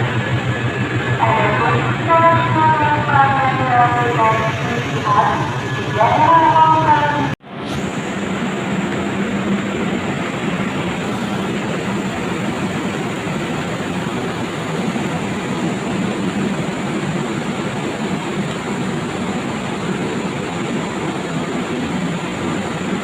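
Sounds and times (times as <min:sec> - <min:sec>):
train running on rails: 0:00.0 - 0:23.0.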